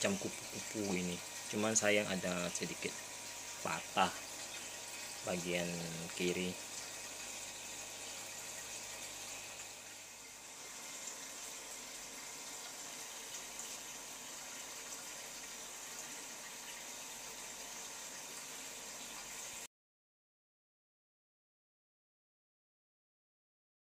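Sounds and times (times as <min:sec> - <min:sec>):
running water hissing: 0:00.0 - 0:19.7.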